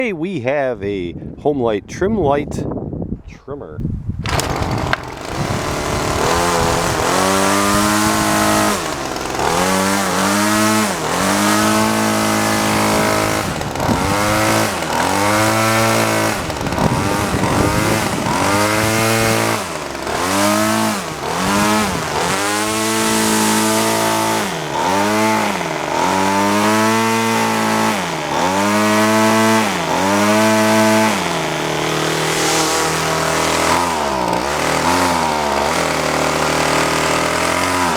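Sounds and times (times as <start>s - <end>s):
trimmer engine revving: 4.2s - 37.9s.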